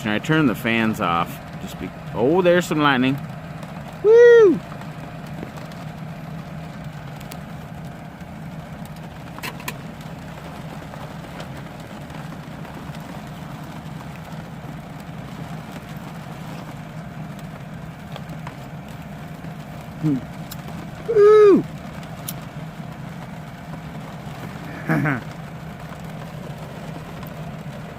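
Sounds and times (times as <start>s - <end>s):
rain on a van: 0.0s - 27.9s.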